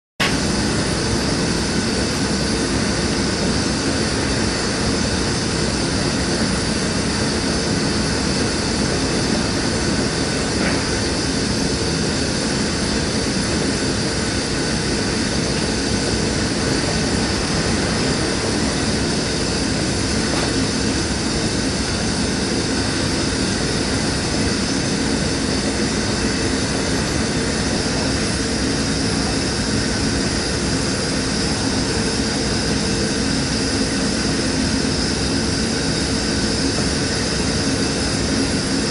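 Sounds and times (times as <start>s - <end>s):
propane torch flame hissing: 0.2s - 38.9s.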